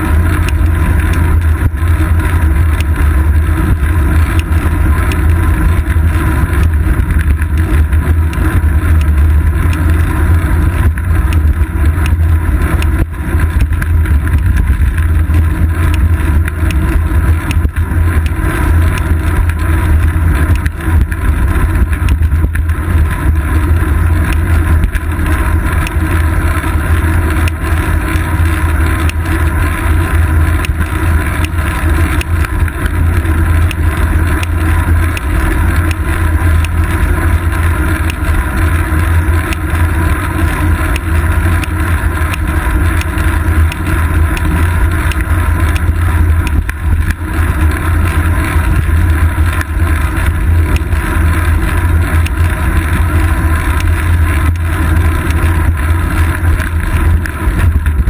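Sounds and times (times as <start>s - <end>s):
wind and road rumble: 0.0s - 58.0s.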